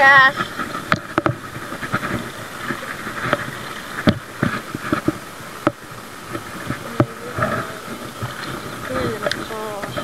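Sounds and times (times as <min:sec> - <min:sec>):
flowing creek rushing: 0:00.0 - 0:10.0.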